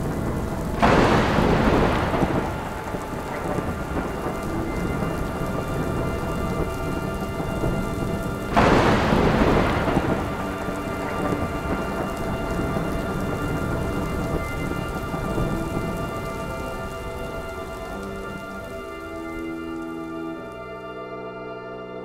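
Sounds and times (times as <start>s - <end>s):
thunderclap rumbling: 0.0s - 20.7s
steady rain: 0.0s - 22.0s.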